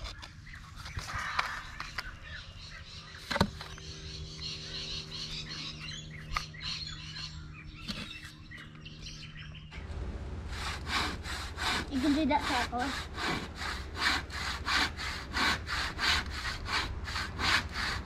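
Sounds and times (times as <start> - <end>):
birds chirping: 0.0 - 18.0
faint low hum: 0.0 - 18.0.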